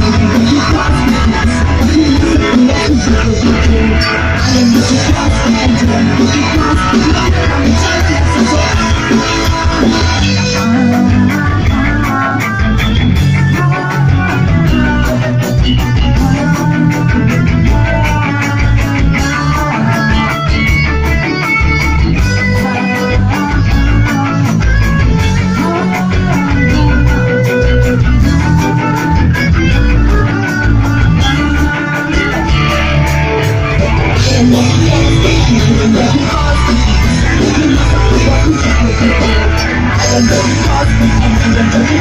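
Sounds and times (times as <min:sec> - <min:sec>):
drum kit beat: 0:00.0 - 0:42.0
electric guitars: 0:00.0 - 0:42.0.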